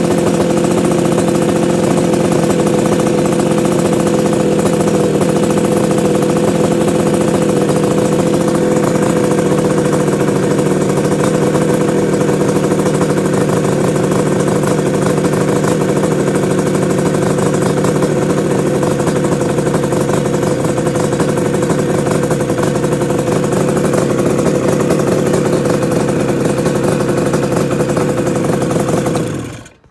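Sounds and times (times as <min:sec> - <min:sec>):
two-stroke motorcycle engine idling: 0:00.0 - 0:29.9.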